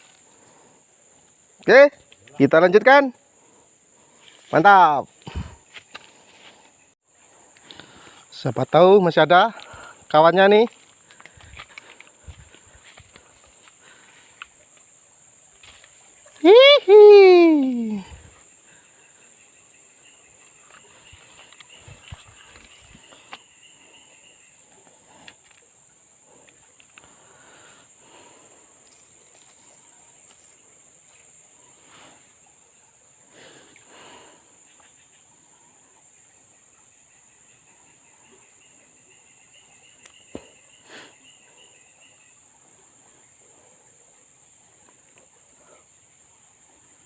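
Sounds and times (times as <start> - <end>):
insects droning: 0.0 - 47.0
pulsing insect trill: 0.0 - 47.0.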